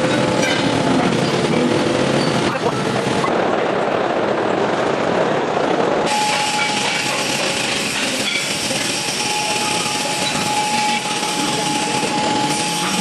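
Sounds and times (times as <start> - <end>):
baler machine noise: 0.0 - 13.0
steady whine: 0.0 - 13.0.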